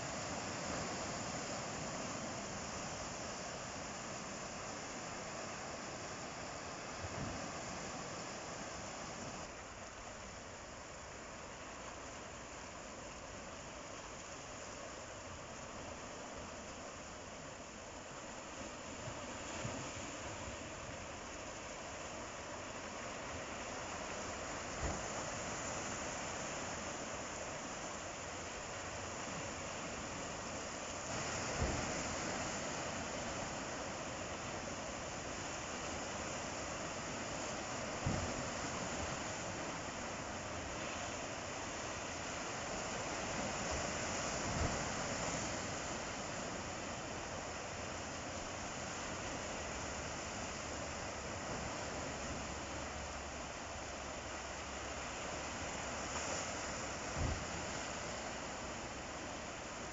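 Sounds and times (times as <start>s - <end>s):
ocean surf washing on shore: 0.0s - 59.9s.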